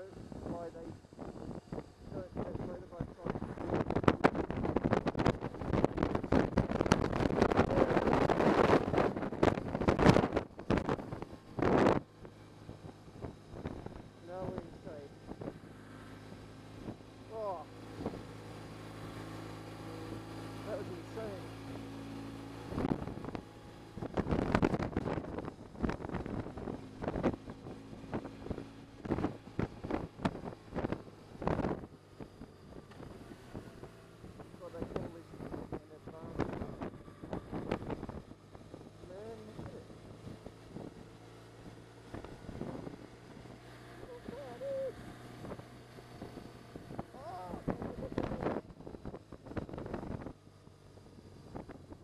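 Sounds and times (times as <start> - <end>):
motorcycle engine: 0.0 - 52.0
road noise: 0.0 - 52.0
wind buffeting microphone: 0.1 - 19.2, 22.6 - 52.0.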